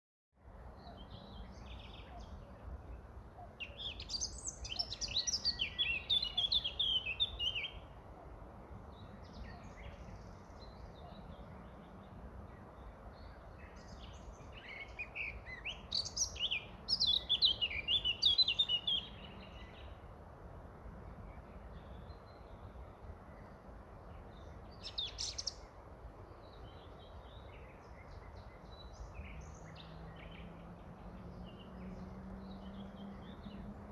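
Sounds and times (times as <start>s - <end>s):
low background noise: 0.4s - 33.9s
songbird chirping: 0.4s - 33.9s.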